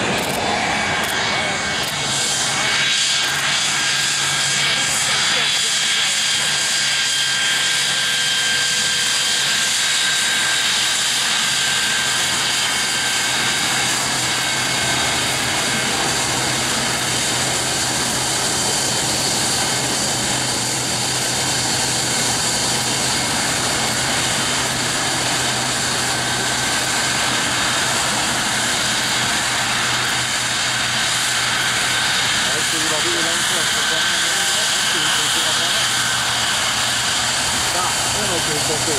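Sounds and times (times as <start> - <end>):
jet engine rush and whine: 0.0 - 38.9.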